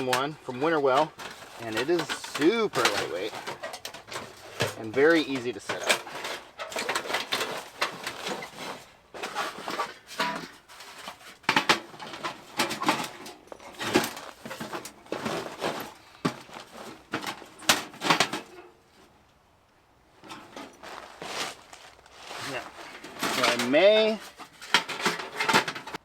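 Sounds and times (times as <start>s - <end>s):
metal stove parts clinking: 0.0s - 18.8s, 20.2s - 20.9s, 22.6s - 26.0s.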